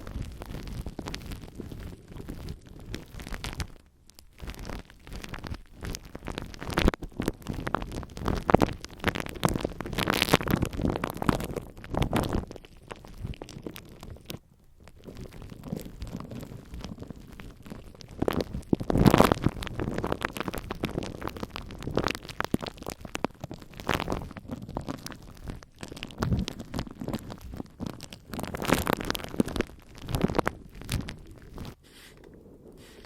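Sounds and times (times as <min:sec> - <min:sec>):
glue stick crackling on microphone: 0:00.0 - 0:33.0.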